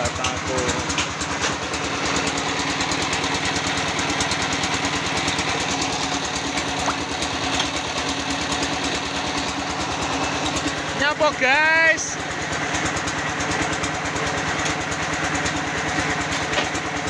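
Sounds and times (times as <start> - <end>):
machine engine chugging: 0.0 - 17.0.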